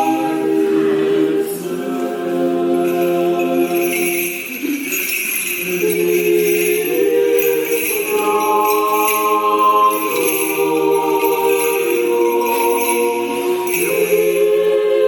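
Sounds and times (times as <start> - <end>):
choir chanting: 0.0 - 15.0.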